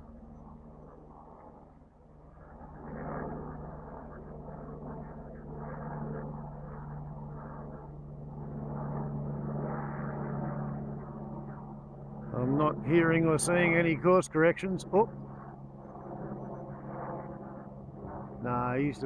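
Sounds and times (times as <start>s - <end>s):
helicopter flying over: 0.0s - 19.0s.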